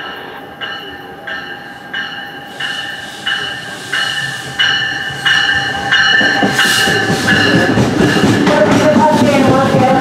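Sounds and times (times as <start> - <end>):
train bell ringing: 0.0 - 9.2
wheels rumbling and clattering on rails: 0.0 - 10.0.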